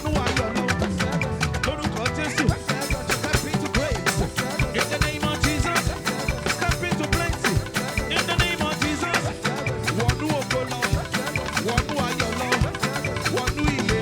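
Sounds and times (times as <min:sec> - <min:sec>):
driving drum rhythm: 0:00.0 - 0:14.0
live band playing praise music: 0:00.0 - 0:14.0.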